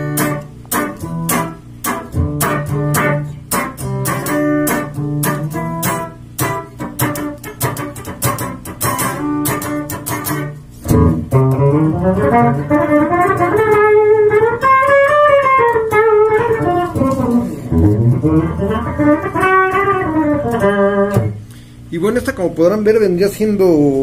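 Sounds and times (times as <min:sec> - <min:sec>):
electric guitar lead with bent notes: 0:00.0 - 0:21.7.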